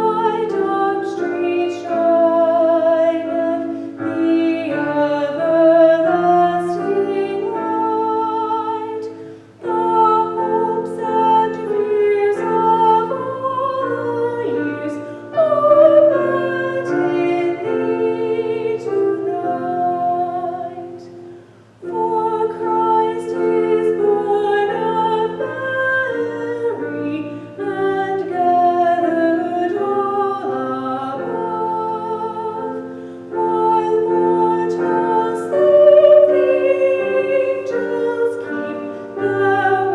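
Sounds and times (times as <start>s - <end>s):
slow hymn with singing voice: 0.0s - 39.9s.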